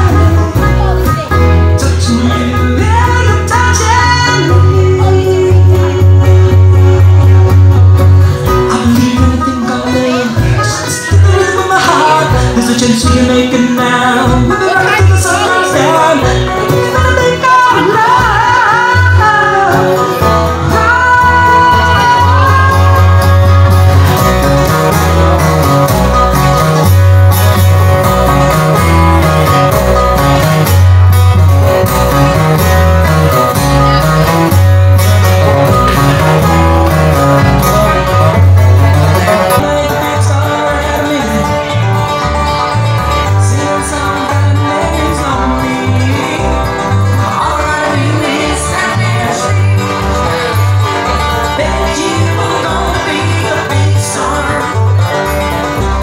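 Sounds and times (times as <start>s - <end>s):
live country band playing: 0.0s - 56.0s.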